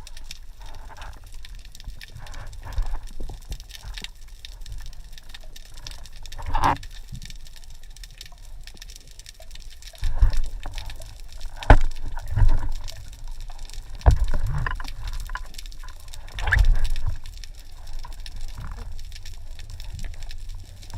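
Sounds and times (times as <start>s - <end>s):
underwater rumble of moving water: 0.0s - 20.9s.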